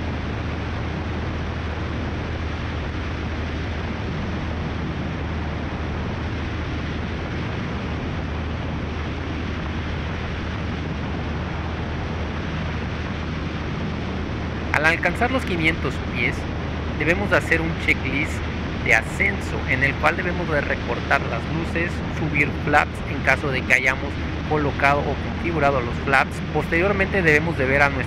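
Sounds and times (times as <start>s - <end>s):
propeller plane engine droning: 0.0s - 28.0s
wind on microphone: 0.0s - 28.0s.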